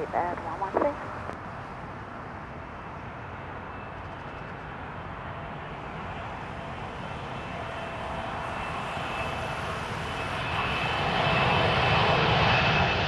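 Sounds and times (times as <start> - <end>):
high engine whine: 0.0 - 13.0
jet engine rumble: 0.0 - 13.0.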